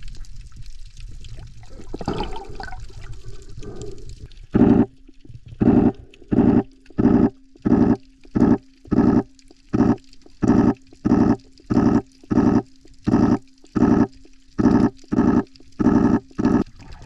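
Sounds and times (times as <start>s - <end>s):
muffled underwater gurgling: 1.3s - 17.0s.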